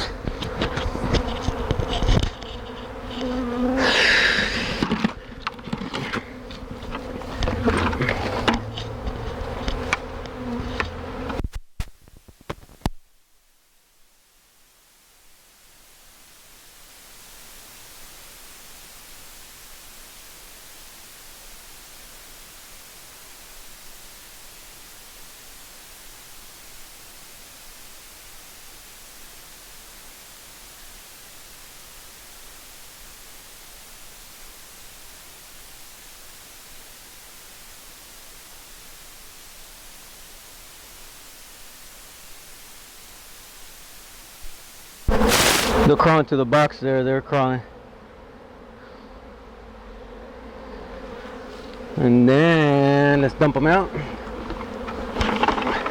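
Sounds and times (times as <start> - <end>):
steady even hiss: 0.0 - 54.4.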